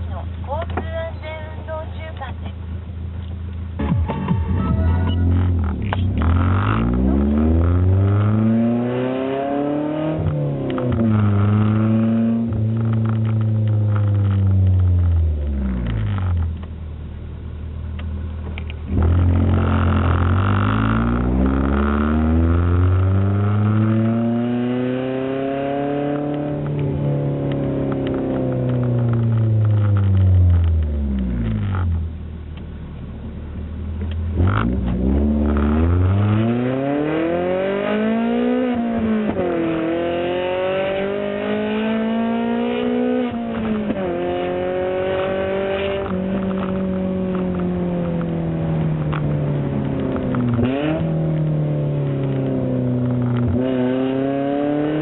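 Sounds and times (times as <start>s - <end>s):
car exhaust and intake revving: 2.4s - 55.0s.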